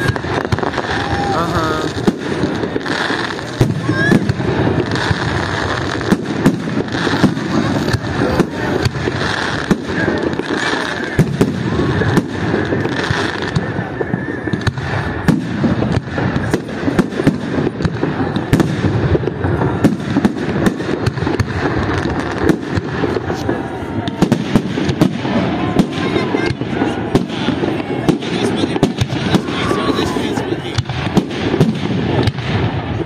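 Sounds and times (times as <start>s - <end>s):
fireworks bursting with sharp bangs: 0.0s - 33.0s.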